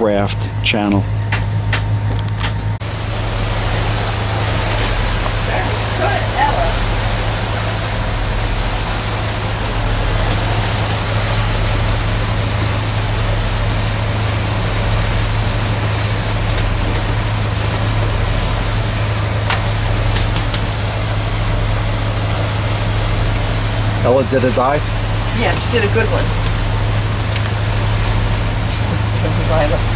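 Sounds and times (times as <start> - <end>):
boat engine droning: 0.0 - 29.9
rush of water and wind: 2.2 - 29.9.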